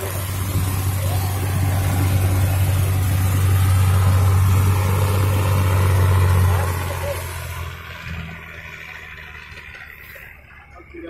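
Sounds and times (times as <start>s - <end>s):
boat diesel engine drone: 0.0s - 11.0s.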